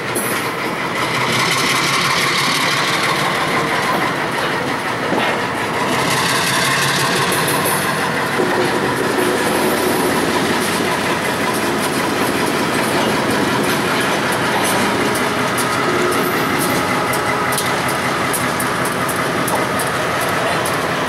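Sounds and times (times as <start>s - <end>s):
freight train rumbling: 0.0s - 21.0s
wheels clicking over rail joints: 0.0s - 21.0s.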